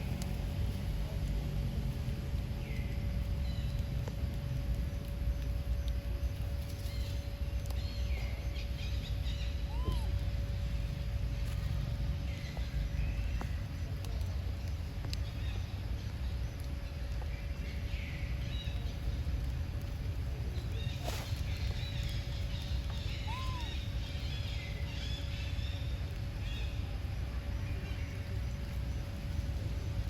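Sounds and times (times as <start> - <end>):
faint steady hum: 0.0 - 30.0
steady low rumble: 0.0 - 30.0.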